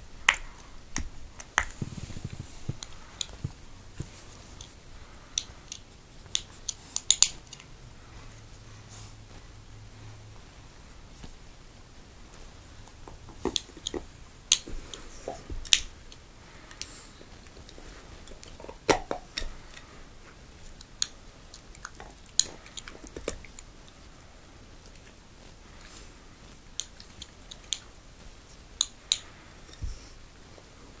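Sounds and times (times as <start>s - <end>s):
dog chewing on toy: 0.2s - 9.6s, 12.3s - 30.7s.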